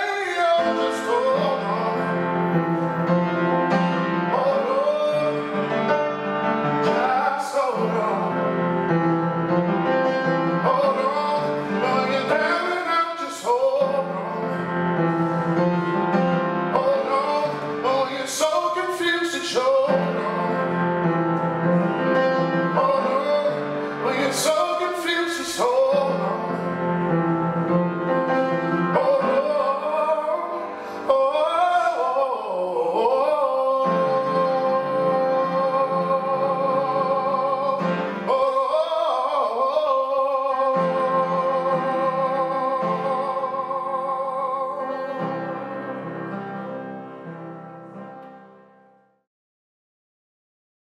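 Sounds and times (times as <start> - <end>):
man singing a slow song: 0.0 - 46.7
piano accompaniment: 0.0 - 49.2.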